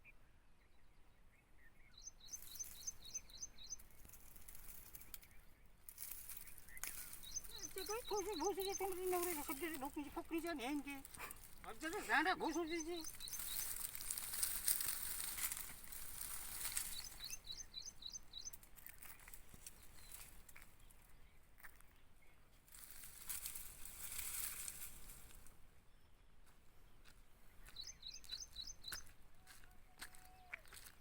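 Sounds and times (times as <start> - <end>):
bird chirping: 0.0 - 22.5, 26.9 - 31.0
steady outdoor hiss: 0.0 - 29.4.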